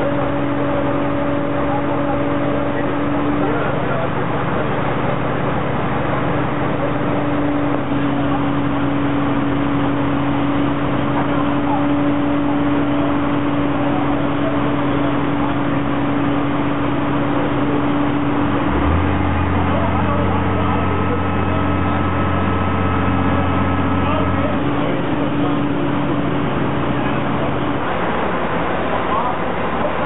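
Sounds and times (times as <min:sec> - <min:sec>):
diesel truck engine humming: 0:00.0 - 0:30.0.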